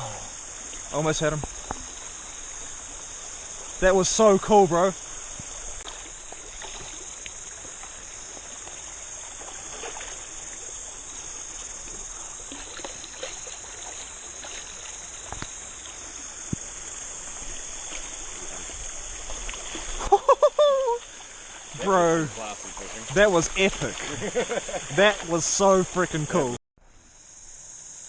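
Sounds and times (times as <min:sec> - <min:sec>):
stream rushing: 0:00.0 - 0:26.6
cicadas chorus: 0:00.0 - 0:28.0.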